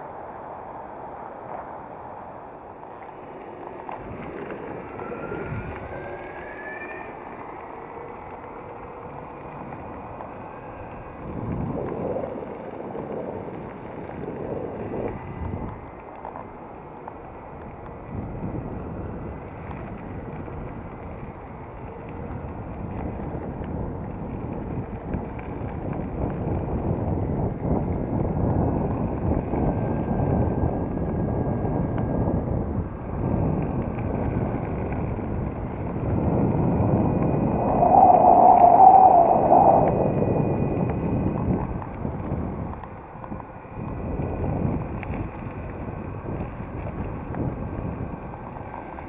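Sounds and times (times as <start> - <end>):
longboard wheels rumbling on road: 0.0 - 49.0
wind rushing over microphone: 0.0 - 49.0.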